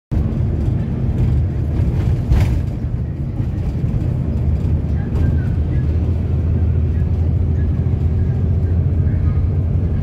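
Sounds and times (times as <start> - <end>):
vehicle cabin rumble: 0.1 - 10.0.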